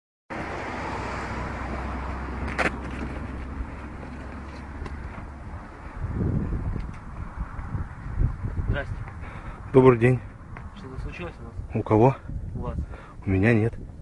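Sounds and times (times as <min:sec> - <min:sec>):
car engine and road noise: 0:00.3 - 0:14.0.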